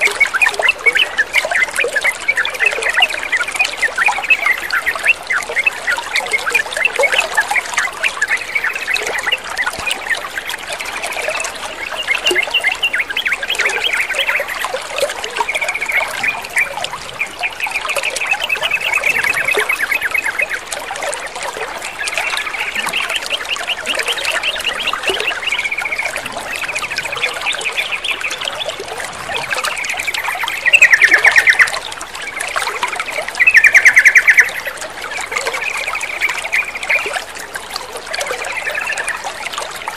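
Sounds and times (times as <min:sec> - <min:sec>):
birds singing bubbling notes: 0:00.0 - 0:39.9
water trickling and splashing: 0:00.0 - 0:39.9.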